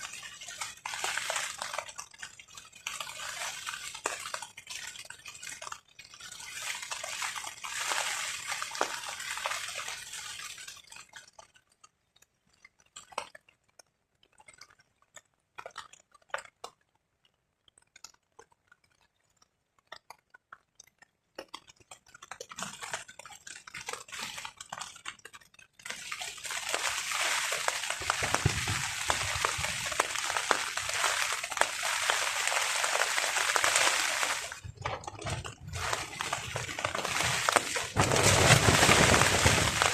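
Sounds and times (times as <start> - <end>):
rain on a tarp: 0.0 - 16.9, 17.7 - 39.9.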